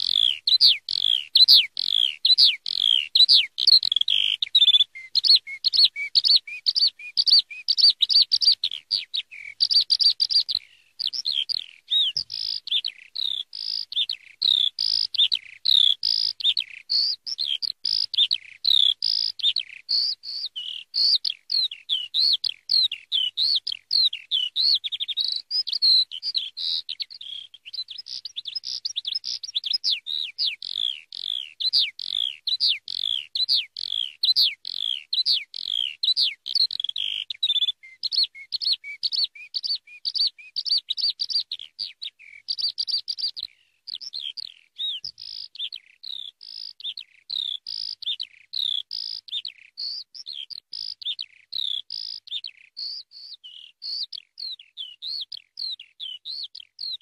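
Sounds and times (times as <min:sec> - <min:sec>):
skylark singing: 0:00.0 - 0:57.0.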